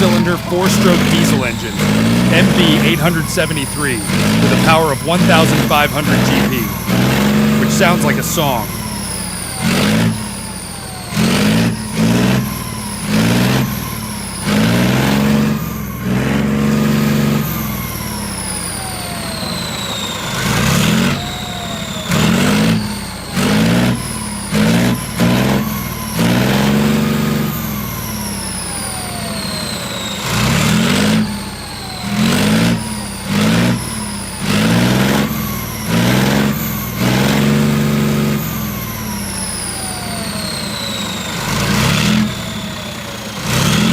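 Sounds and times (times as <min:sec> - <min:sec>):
tank diesel engine revving: 0:00.0 - 0:43.9.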